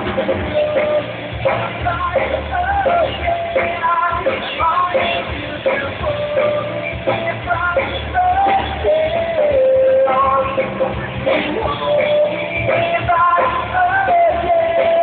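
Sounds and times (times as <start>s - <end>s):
muffled live rock band: 0.0s - 15.0s.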